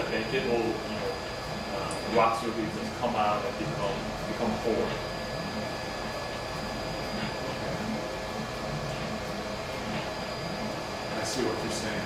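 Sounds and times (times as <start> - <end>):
printer mechanical hum and hiss: 0.0 - 12.0
thin whining tones: 0.0 - 12.0.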